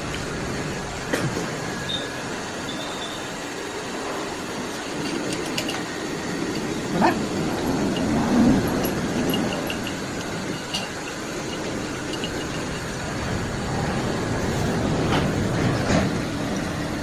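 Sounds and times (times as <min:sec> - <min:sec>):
machinery rumble: 0:00.0 - 0:17.0.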